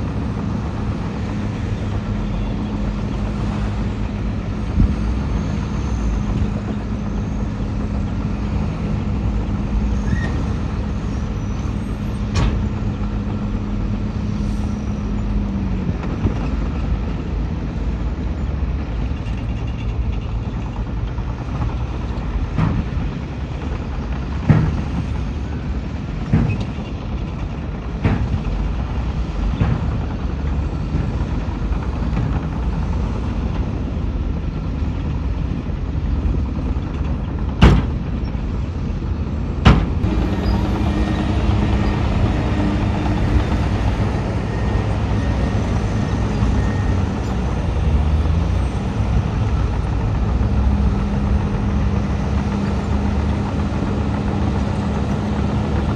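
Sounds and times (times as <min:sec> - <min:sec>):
diesel machinery engine: 0:00.0 - 0:55.9.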